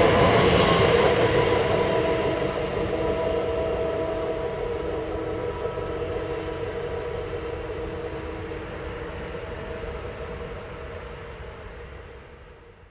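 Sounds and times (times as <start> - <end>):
train passing rumble: 0.0 - 12.9.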